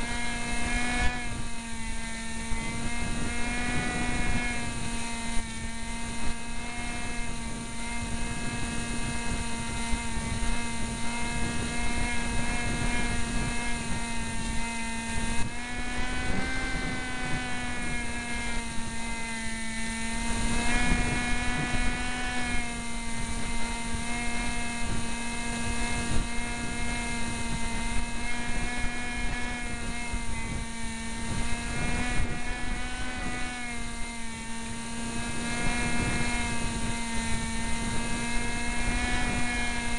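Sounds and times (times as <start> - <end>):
model plane motor whine: 0.0 - 39.9
wind buffeting microphone: 0.0 - 39.9.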